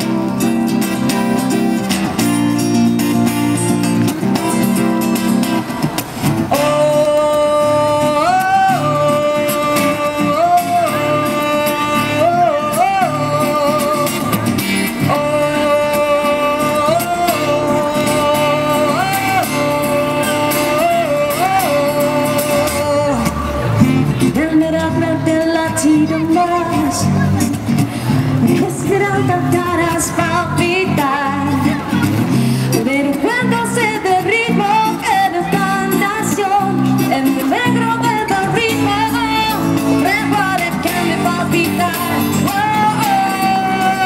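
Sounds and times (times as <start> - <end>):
acoustic guitar chords: 0.0 - 44.0.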